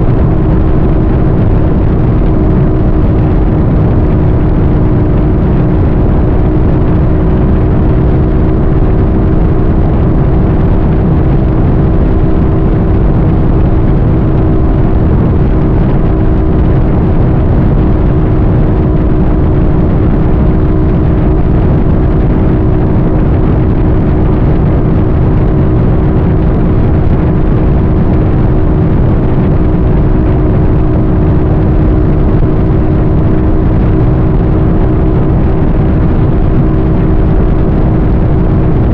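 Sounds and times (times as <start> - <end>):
rushing wind and road noise: 0.0 - 38.9
vehicle engine drone: 0.0 - 38.9.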